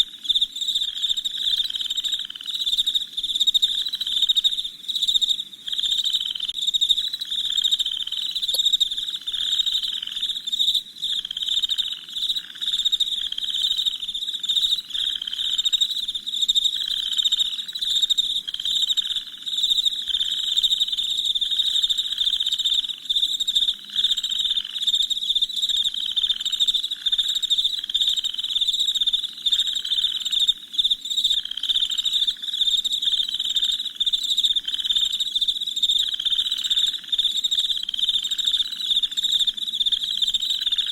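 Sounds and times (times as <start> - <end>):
crickets chirping: 0.0 - 40.9
low pulsing insect call: 0.0 - 40.9.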